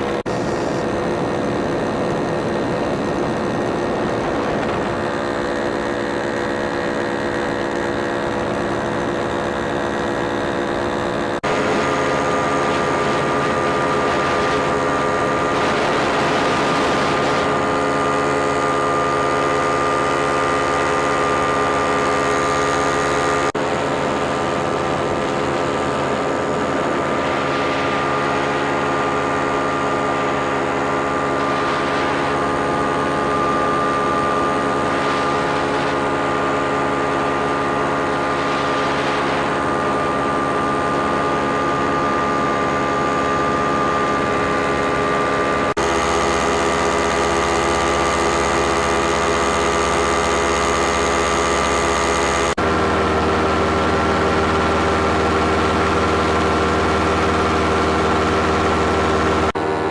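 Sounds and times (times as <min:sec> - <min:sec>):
paramotor engine and propeller: 0:00.0 - 0:59.9
wind noise rushes: 0:00.0 - 0:59.9.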